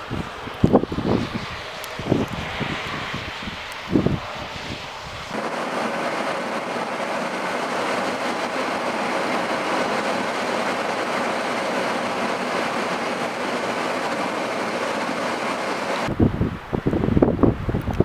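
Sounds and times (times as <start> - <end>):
tyres on wet slushy road: 0.0 - 16.1.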